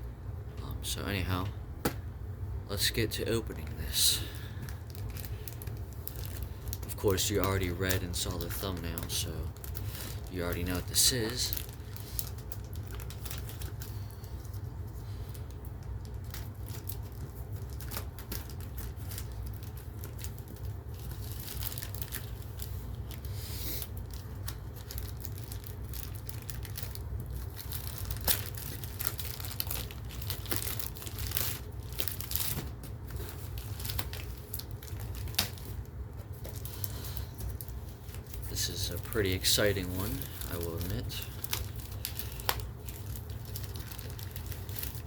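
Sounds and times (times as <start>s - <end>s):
packaging tearing and crinkling: 3.6s - 14.7s, 15.3s - 45.0s.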